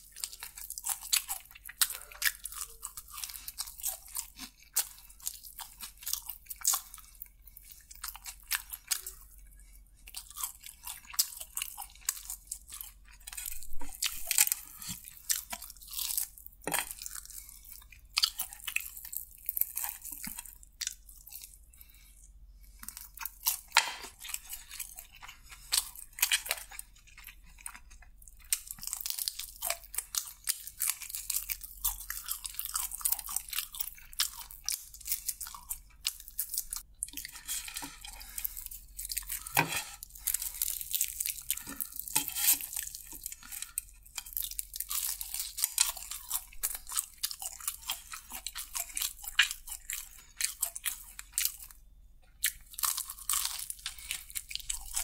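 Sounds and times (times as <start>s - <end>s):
person chewing crispy fried chicken: 0.0s - 55.0s.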